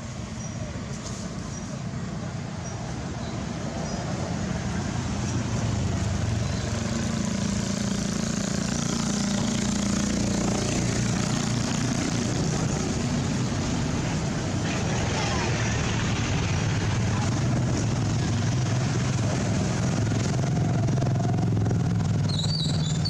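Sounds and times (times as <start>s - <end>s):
motor vehicle engine humming: 0.0s - 23.0s.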